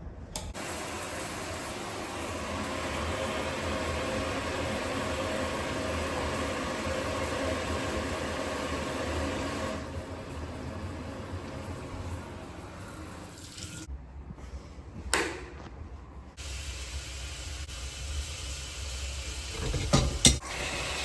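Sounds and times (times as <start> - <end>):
water running from plumbing: 0.5 - 13.9, 16.4 - 21.0.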